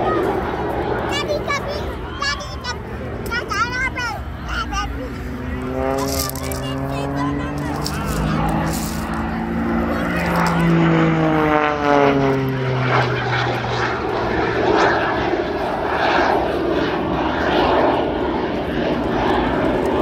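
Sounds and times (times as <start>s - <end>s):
propeller plane engine passing: 0.0s - 20.0s.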